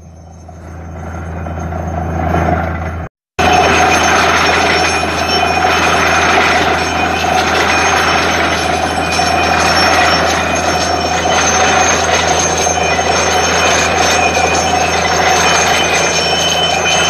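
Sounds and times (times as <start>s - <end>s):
drilling rig mechanical drone: 0.0s - 17.0s
high whine: 0.0s - 17.0s.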